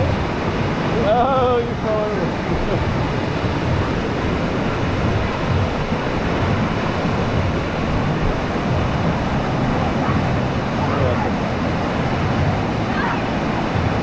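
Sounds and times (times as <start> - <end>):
deep rumble: 0.0 - 14.0
rush of pumped water: 0.0 - 14.0.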